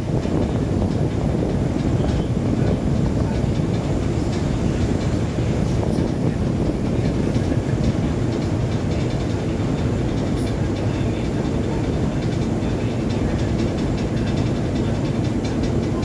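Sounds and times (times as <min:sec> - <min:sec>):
sea water wash: 0:00.0 - 0:16.0
ship engine drone: 0:00.0 - 0:16.0.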